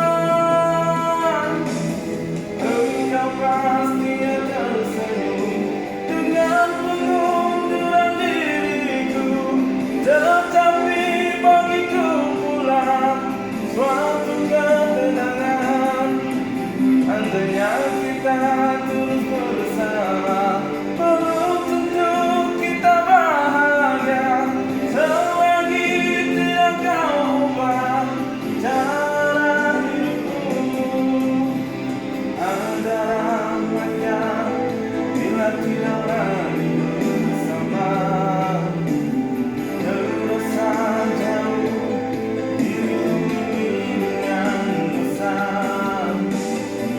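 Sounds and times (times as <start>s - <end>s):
person singing pop-rock ballad: 0.0s - 46.9s
sustained instrumental backing: 0.0s - 46.9s.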